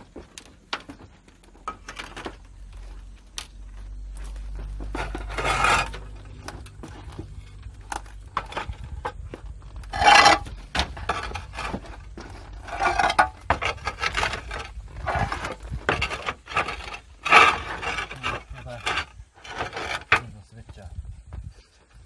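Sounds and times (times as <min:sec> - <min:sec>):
small knocks and rustles: 0:00.0 - 0:22.0
rough scraping and rubbing: 0:01.6 - 0:20.4.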